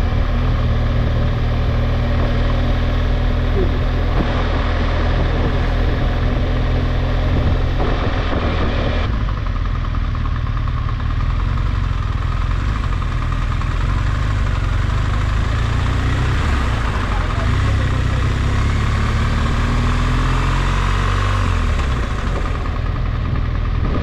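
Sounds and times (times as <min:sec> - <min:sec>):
car engine running: 0:00.0 - 0:24.0
road noise inside car: 0:00.0 - 0:24.0.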